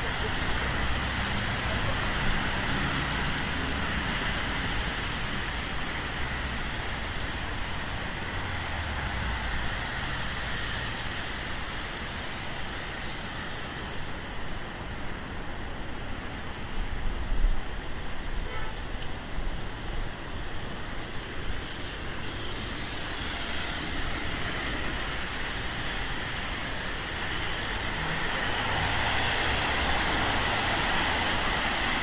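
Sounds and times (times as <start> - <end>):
passing cars on wet road: 0.0 - 32.0
rain hiss on wet street: 0.0 - 32.0.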